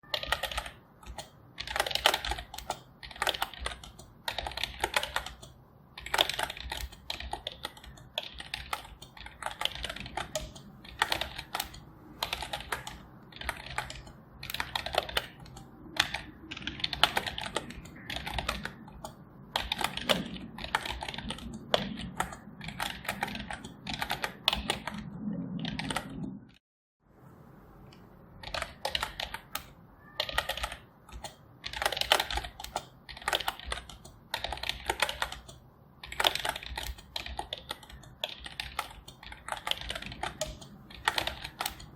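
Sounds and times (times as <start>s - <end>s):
keyboard typing clicks: 0.0s - 26.4s, 27.9s - 41.9s.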